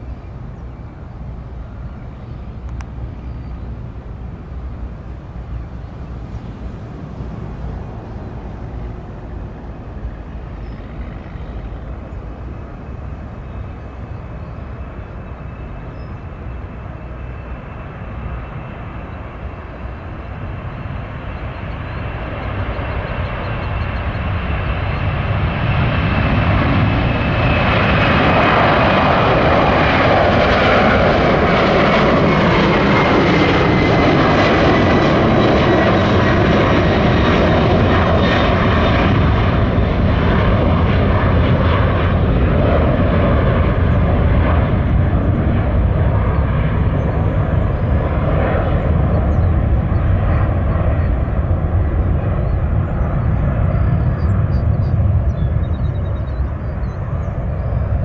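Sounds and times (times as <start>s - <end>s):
high jet engine whine: 0.0s - 58.0s
jet engines roaring: 0.0s - 58.0s.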